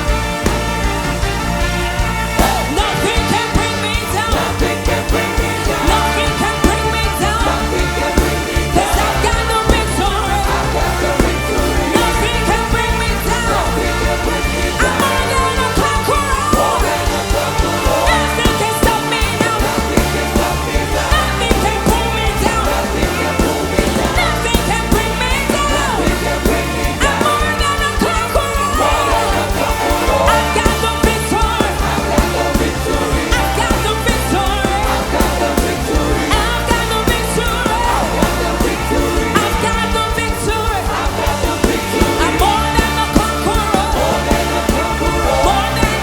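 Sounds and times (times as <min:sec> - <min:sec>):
music with singing and beat: 0:00.0 - 0:46.0.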